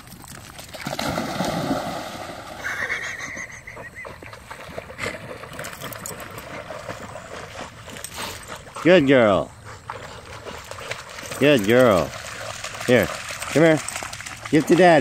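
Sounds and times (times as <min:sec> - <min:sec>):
churning water of swimming dogs: 0:00.0 - 0:02.7, 0:03.8 - 0:15.0
dogs splashing into water: 0:00.1 - 0:02.7, 0:04.0 - 0:15.0.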